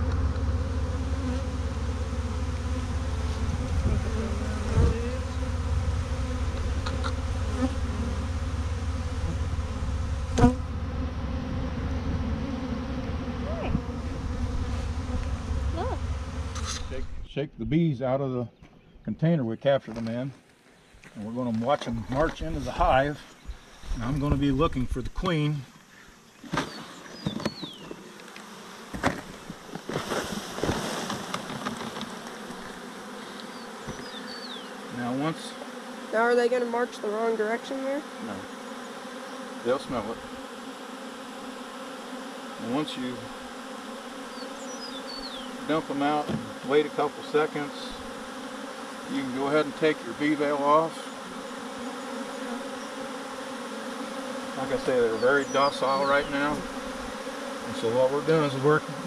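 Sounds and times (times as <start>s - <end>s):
bee swarm buzzing: 0.0s - 17.2s, 21.1s - 59.0s.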